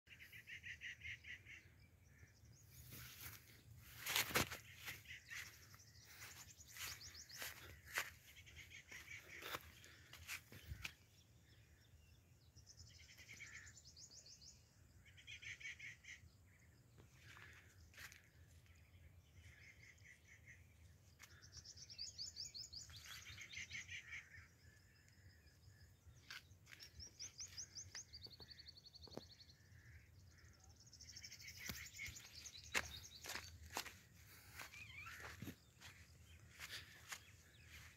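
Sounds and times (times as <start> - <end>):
birds chirping: 0.1 - 37.9.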